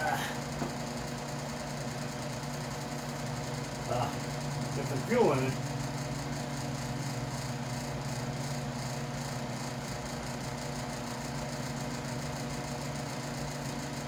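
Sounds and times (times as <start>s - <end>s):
electric fan humming and whirring: 0.0s - 14.0s.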